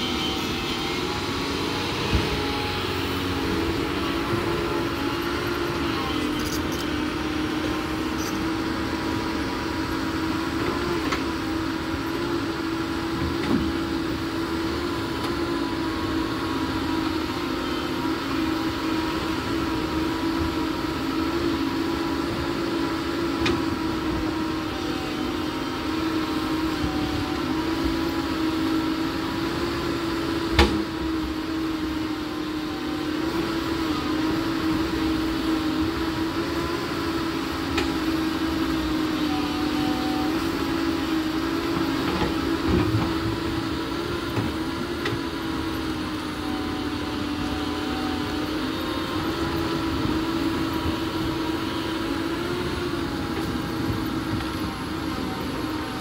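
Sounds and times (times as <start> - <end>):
excavator diesel engine humming: 0.0 - 56.0.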